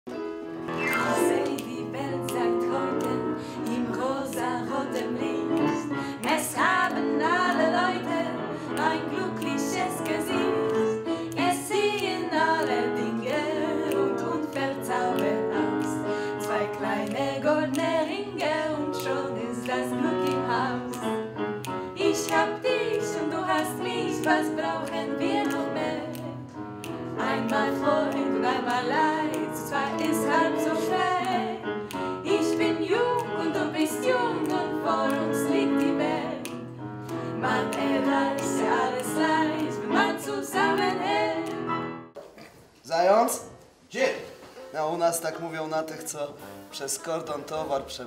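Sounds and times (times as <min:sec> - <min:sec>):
instrumental accompaniment: 0:00.1 - 0:42.4
women singing: 0:00.9 - 0:36.6, 0:37.2 - 0:41.7.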